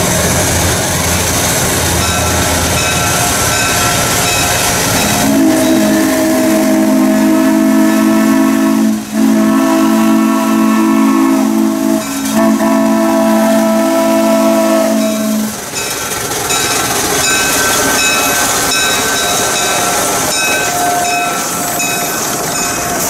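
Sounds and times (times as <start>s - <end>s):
steam hissing: 0.0s - 23.0s
steam locomotive chime whistle: 2.0s - 23.0s.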